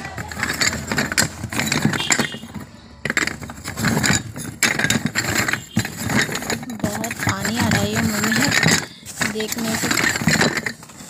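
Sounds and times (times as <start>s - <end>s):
clay cups clinking: 0.0s - 11.0s.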